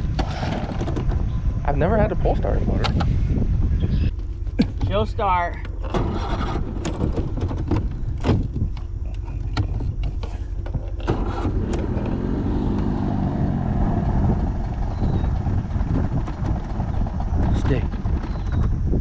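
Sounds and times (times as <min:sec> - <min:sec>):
boat motor cranking rumble: 0:00.0 - 0:19.0.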